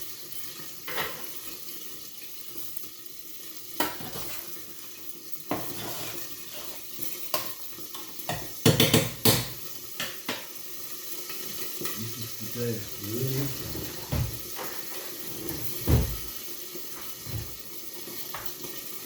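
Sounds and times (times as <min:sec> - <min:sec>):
sausage sizzling in a frying pan: 0:00.0 - 0:19.0.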